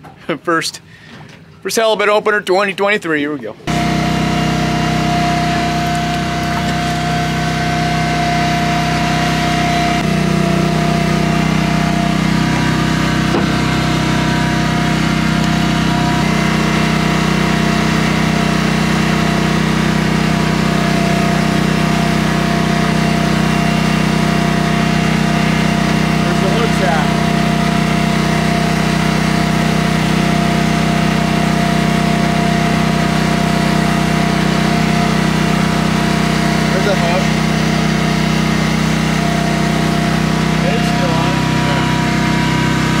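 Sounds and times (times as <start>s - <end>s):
boat engine humming: 3.6s - 43.0s
hydraulic line hauler running: 3.6s - 43.0s.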